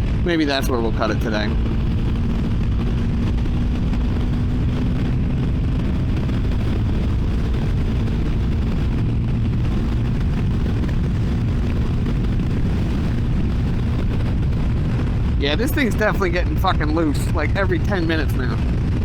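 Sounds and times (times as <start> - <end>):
motorcycle engine running: 0.0 - 19.0
wind noise: 0.0 - 19.0.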